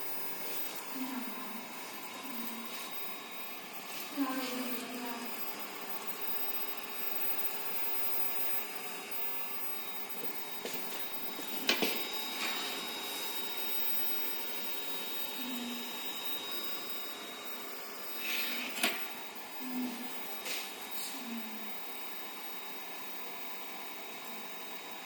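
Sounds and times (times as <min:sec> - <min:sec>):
printer fans whirring: 0:00.0 - 0:25.0.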